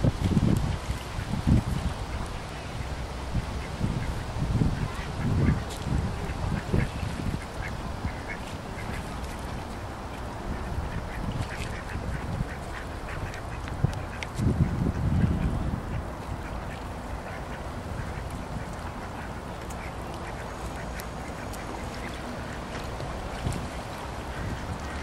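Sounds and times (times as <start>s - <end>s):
ducks quacking: 3.6s - 9.5s, 10.5s - 25.0s.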